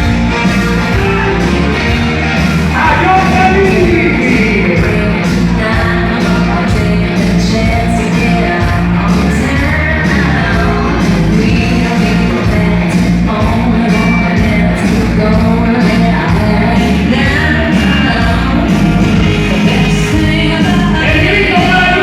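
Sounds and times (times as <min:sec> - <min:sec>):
loud rock music with singing: 0:00.0 - 0:22.0.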